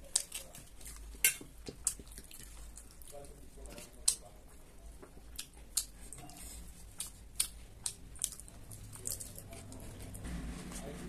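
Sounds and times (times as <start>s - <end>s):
crunchy chewing: 0.0s - 4.6s, 5.2s - 11.0s.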